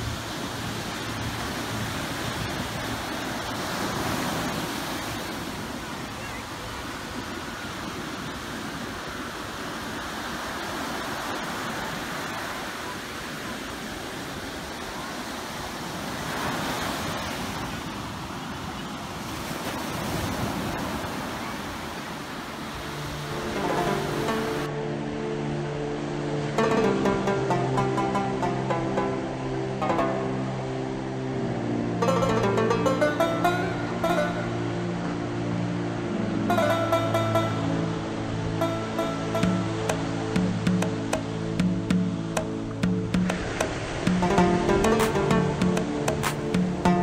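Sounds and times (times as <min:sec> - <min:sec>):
surf washing onto beach: 0:00.0 - 0:47.0.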